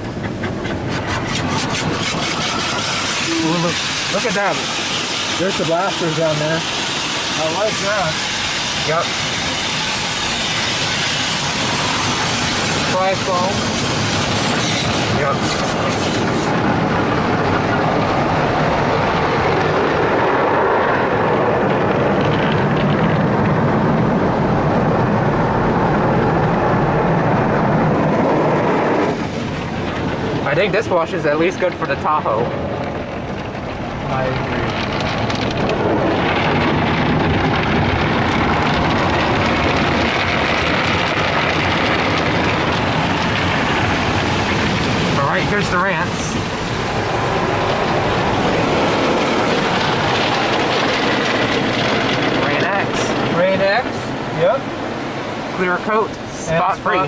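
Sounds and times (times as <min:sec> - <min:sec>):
car wash water spray: 0:00.0 - 0:56.9.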